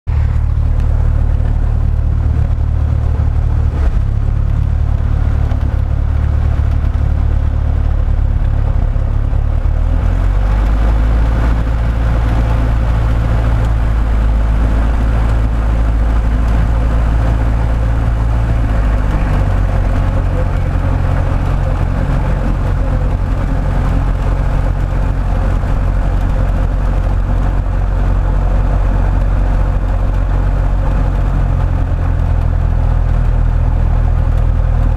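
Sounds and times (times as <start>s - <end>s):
propeller aircraft engine running: 0.0s - 34.9s.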